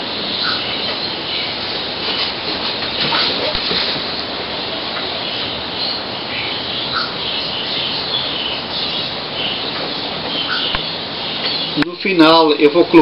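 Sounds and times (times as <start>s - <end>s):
birds calling: 0.0s - 13.0s
steady hiss: 0.0s - 13.0s.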